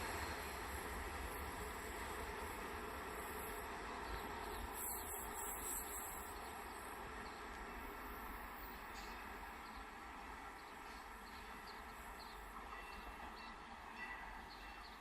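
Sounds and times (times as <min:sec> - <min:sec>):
faint outdoor rumble and hiss: 0:00.0 - 0:12.6.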